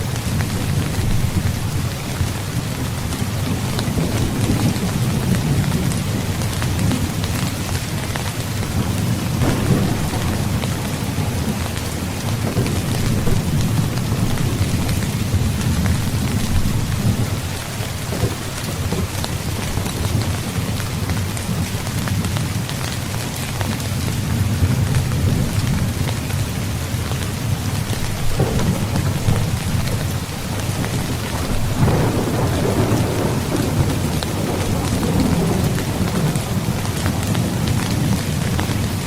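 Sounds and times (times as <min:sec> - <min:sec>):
thunder rumbling: 0:00.0 - 0:22.9, 0:23.7 - 0:39.0
heavy rain falling: 0:00.0 - 0:39.0.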